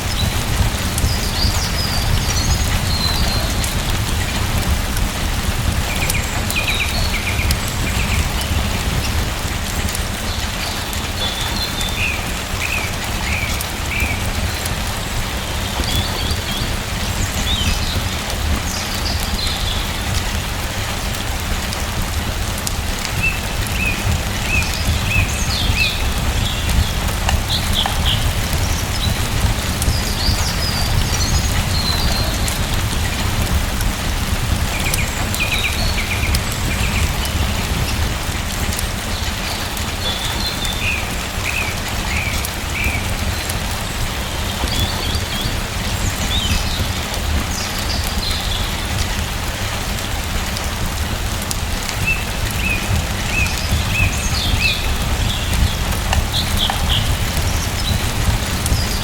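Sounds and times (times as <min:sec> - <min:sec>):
small birds chirping: 0:00.0 - 0:21.7, 0:23.0 - 0:49.3, 0:52.0 - 0:59.0
steady rain: 0:00.0 - 0:59.0.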